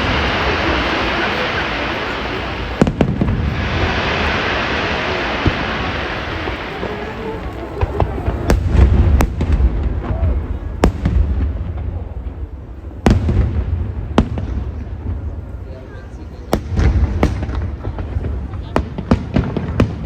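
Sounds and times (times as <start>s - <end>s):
fireworks sharp cracks: 0.0s - 15.7s, 16.4s - 20.0s
fireworks rumbling bursts: 0.0s - 20.0s.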